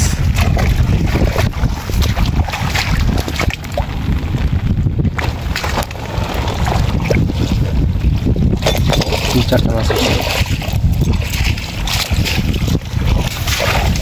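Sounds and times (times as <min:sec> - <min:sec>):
water splashes: 0:00.0 - 0:14.0
wind buffeting microphone: 0:00.0 - 0:14.0.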